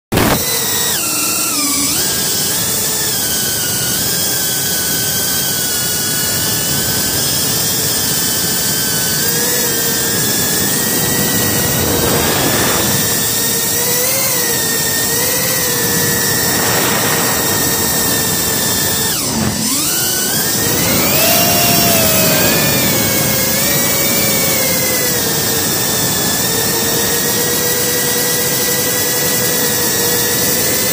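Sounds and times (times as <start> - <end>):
drone motors and propellers whining: 0.1 - 30.9.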